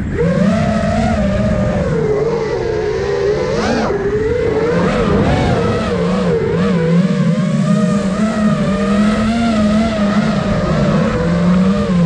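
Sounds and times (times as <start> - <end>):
drone motors whining: 0.0 - 12.0
wind rumbling on microphone: 0.0 - 12.0.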